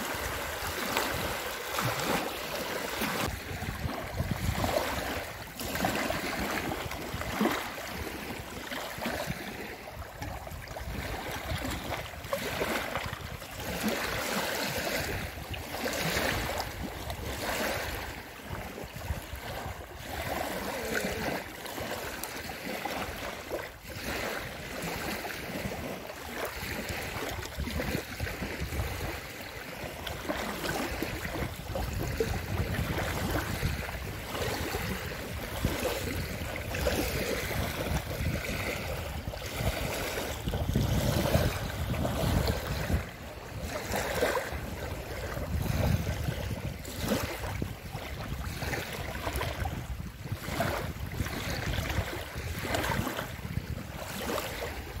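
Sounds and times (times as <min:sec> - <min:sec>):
waves lapping on a ramp: 0:00.0 - 0:55.0.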